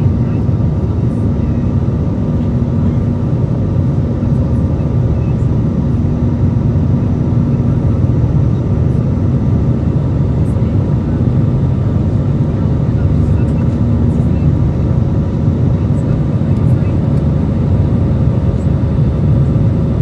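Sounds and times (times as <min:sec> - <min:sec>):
jet engine cabin roar: 0:00.0 - 0:20.0.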